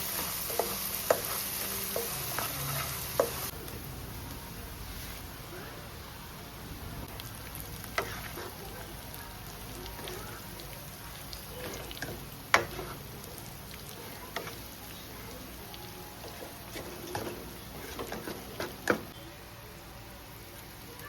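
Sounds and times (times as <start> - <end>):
food sizzling in a frying pan: 0.0 - 6.2, 7.0 - 21.0.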